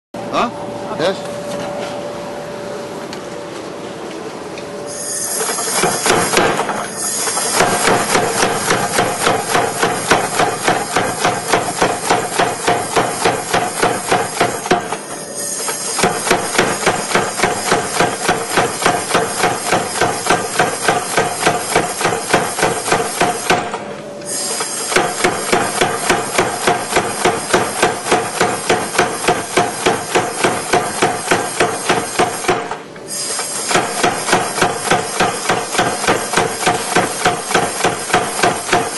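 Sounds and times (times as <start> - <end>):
hammers striking steel on anvil: 5.2 - 38.9.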